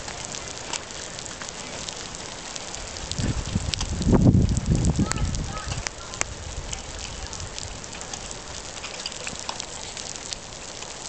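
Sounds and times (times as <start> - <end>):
rain falling: 0.0 - 11.0
raindrops ticking on surfaces: 0.0 - 11.0.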